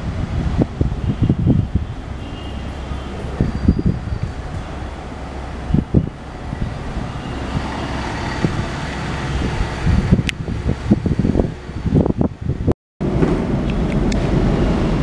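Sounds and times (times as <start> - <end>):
locomotive diesel engine rumbling: 0.0 - 15.0
wind buffeting microphone: 0.0 - 15.0.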